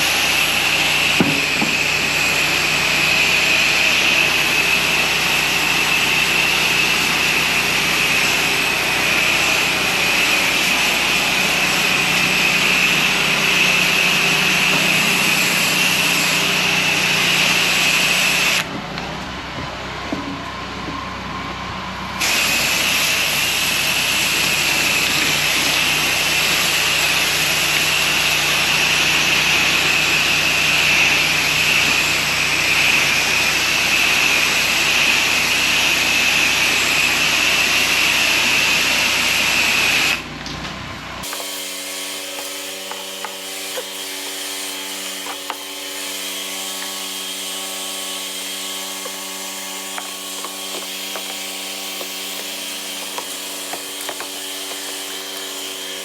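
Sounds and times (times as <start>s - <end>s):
pressure washer spraying: 0.0s - 18.7s, 22.2s - 40.2s, 41.2s - 56.0s.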